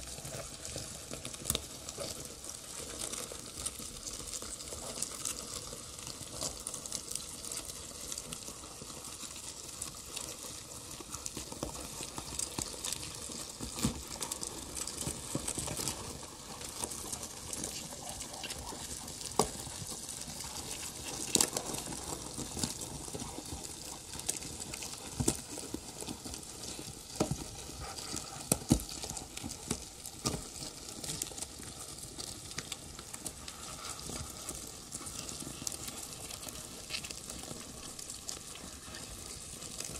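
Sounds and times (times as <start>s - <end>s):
crackling electronic noise: 0.0s - 39.9s.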